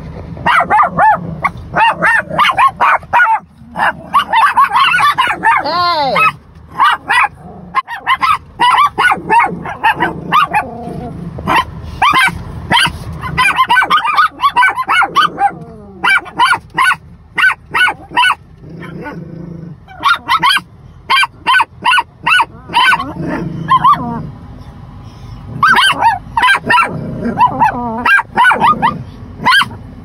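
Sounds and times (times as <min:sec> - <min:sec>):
small dogs barking excitedly: 0:00.0 - 0:30.0.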